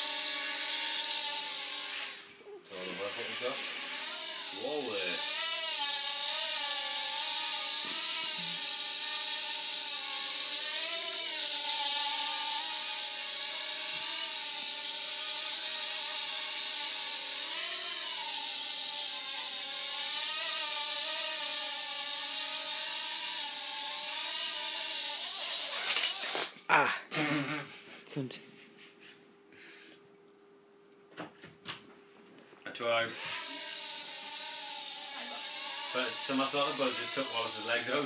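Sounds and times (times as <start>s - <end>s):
toy helicopter buzzing whine: 0.0s - 26.6s, 33.0s - 38.0s.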